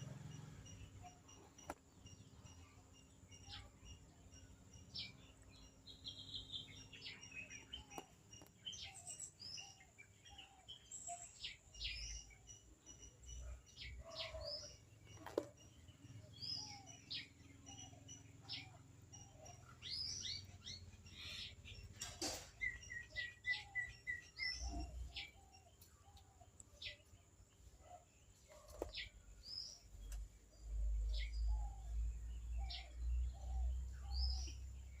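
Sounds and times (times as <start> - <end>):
birds calling and chirping: 0.0 - 35.0.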